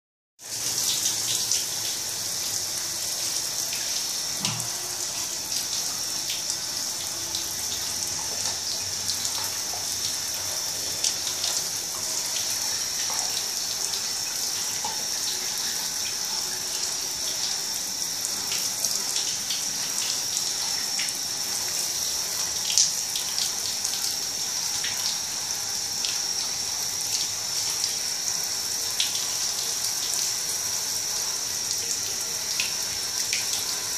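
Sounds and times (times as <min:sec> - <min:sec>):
shower water hissing and splashing: 0:00.4 - 0:33.9.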